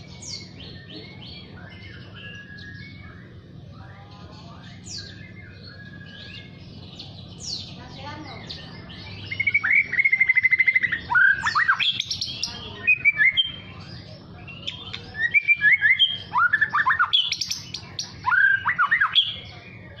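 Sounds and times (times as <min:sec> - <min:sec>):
bird singing trills and whistles: 0:00.0 - 0:20.0.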